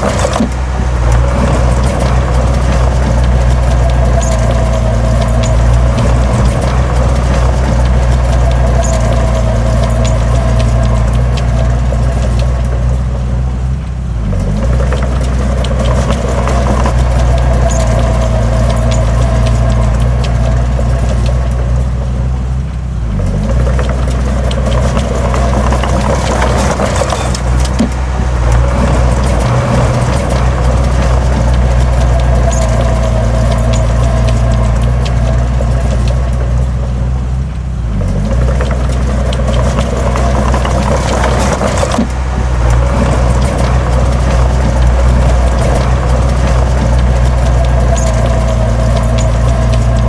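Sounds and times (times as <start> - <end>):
diesel engine under load: 0.0 - 50.0
metallic clattering and scraping: 0.0 - 50.0.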